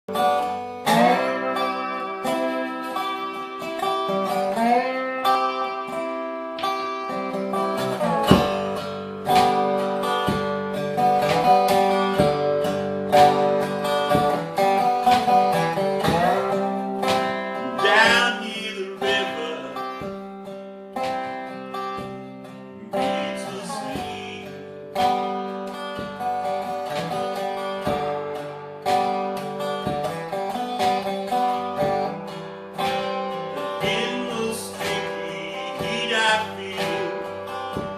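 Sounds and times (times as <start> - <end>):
blues guitar playing: 0.1 - 37.9.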